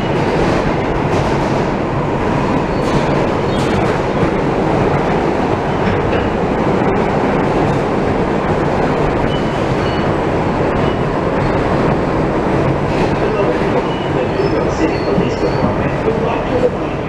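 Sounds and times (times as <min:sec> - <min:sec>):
subway car wheels roaring on rail: 0:00.0 - 0:17.0.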